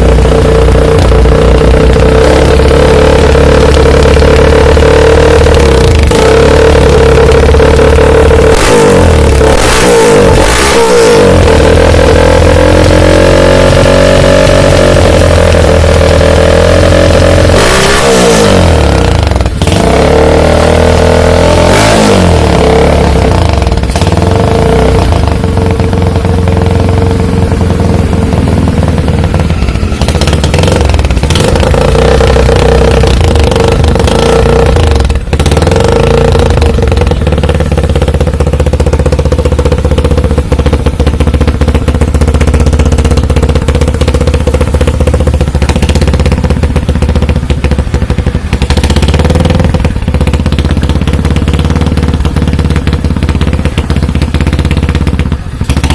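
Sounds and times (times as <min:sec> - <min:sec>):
motorcycle engine revving loudly: 0:00.0 - 0:55.9.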